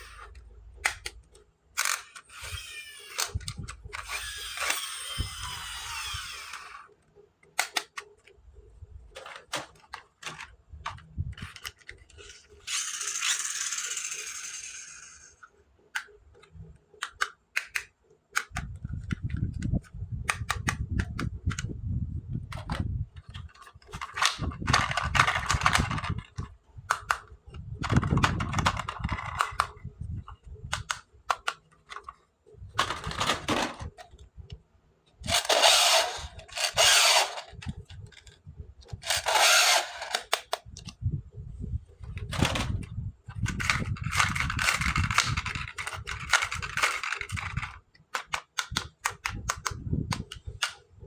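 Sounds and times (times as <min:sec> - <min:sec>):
plastic toy pieces clicking: 0:00.0 - 0:08.3, 0:09.1 - 0:21.7, 0:22.5 - 0:29.8, 0:30.4 - 0:32.2, 0:35.2 - 0:41.0, 0:42.0 - 0:50.8.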